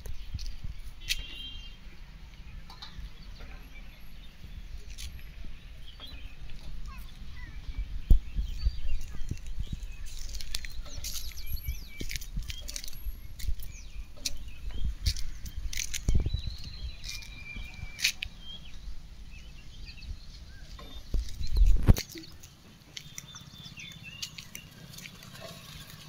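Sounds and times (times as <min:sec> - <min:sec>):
small birds chirping: 0:00.0 - 0:26.0
wind rumble on microphone: 0:00.0 - 0:26.0.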